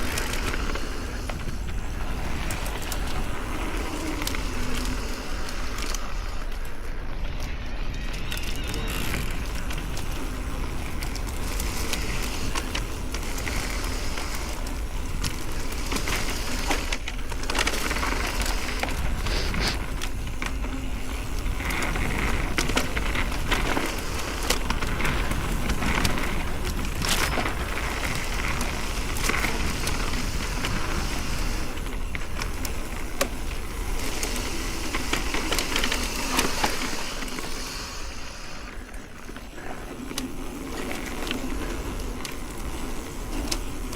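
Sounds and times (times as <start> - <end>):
tyres crunching on gravel: 0.0 - 7.0, 7.6 - 43.9
bike clicks and rattles: 0.0 - 43.9.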